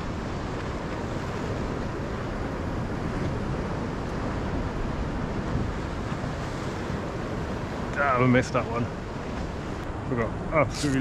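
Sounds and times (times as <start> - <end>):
sea surf: 0.0 - 11.0
wind on microphone: 0.0 - 11.0.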